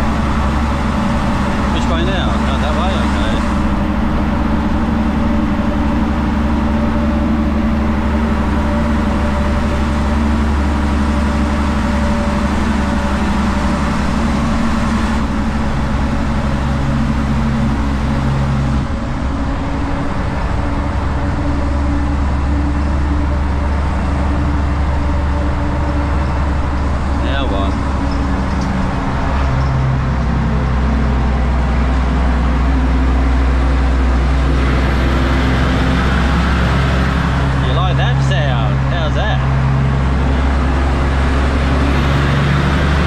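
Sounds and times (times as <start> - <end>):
truck engine running: 0.0 - 43.0.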